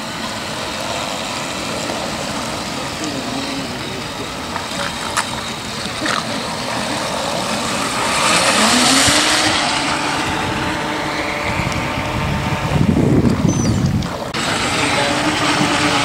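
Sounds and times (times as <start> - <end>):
motor passing: 0.0 - 16.0
wind and water hiss: 0.0 - 16.0.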